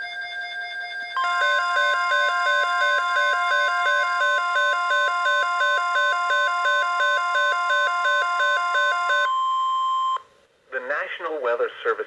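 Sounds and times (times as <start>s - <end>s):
steady high alarm tone: 0.0s - 9.8s.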